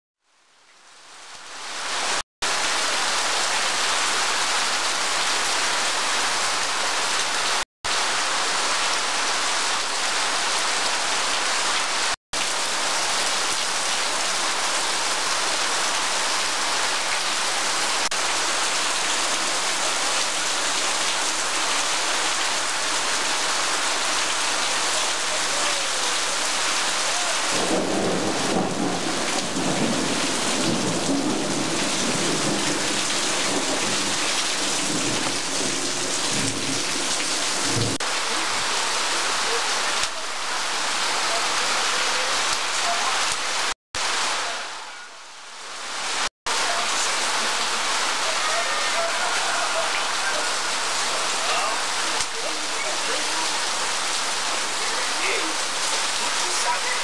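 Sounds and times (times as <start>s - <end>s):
rain on roof tiles and concrete: 0.2s - 57.0s.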